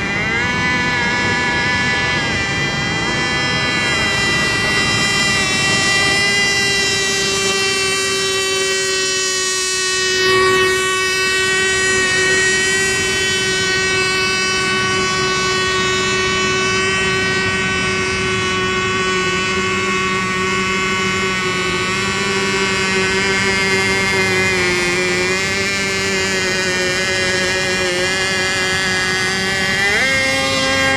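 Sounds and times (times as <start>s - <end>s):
rc boat motors whining: 0.0s - 30.9s.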